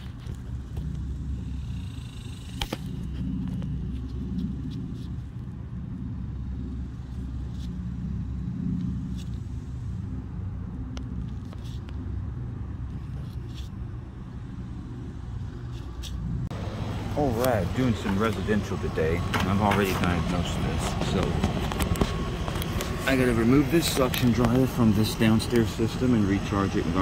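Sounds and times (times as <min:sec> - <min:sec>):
air conditioner humming: 0:00.0 - 0:27.0.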